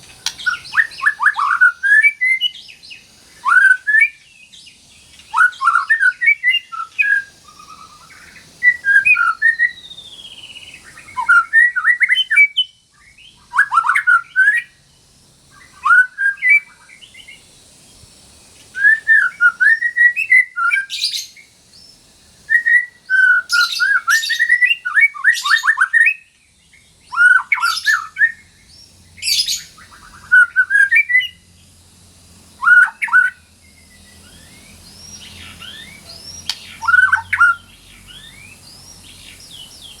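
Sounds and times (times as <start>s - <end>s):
songbird singing: 0.0s - 40.0s.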